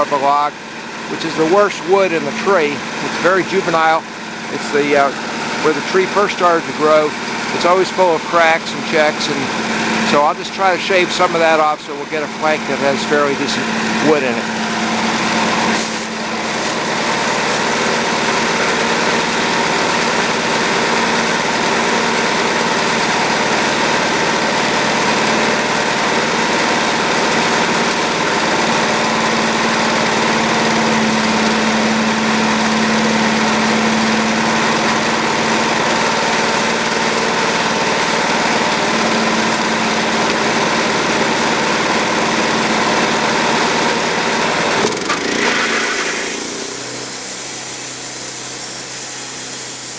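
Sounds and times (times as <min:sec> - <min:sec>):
bandsaw mill cutting log: 0:00.0 - 0:49.9.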